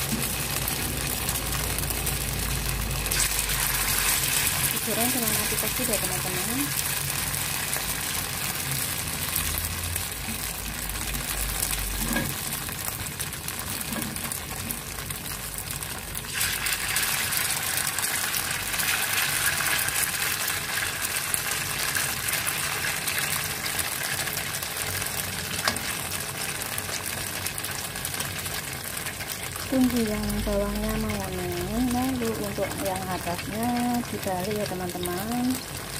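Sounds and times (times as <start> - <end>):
fritters sizzling in hot oil: 0.0 - 35.9.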